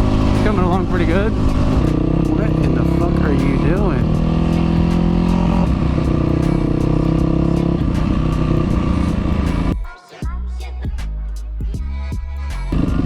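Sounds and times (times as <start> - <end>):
motorcycle engine running: 0.0 - 11.0, 11.6 - 13.0.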